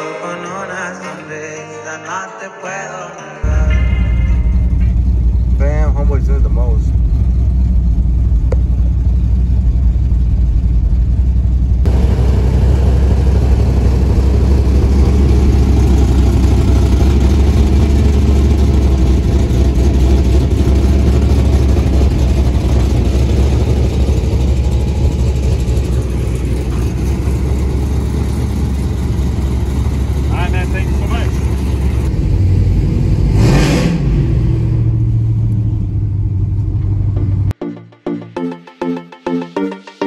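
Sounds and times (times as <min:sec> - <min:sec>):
truck engine idling: 0:03.4 - 0:33.3, 0:34.4 - 0:37.6.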